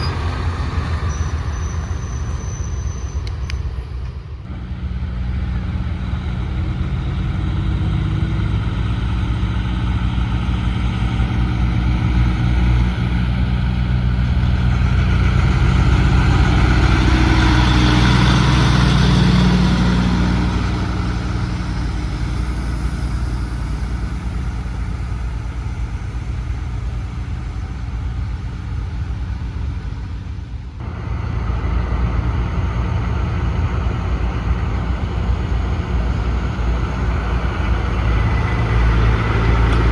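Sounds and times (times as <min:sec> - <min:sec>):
diesel truck engine passing: 0:00.0 - 0:39.9.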